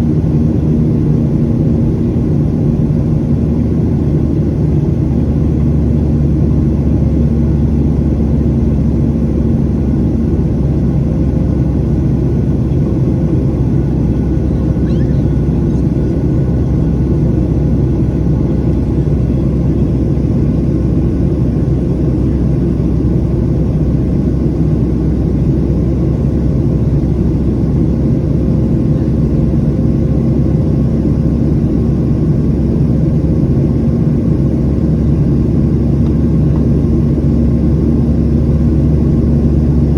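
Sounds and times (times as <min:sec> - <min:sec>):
jet engine drone: 0:00.0 - 0:39.9
faint hum tones: 0:06.4 - 0:39.9.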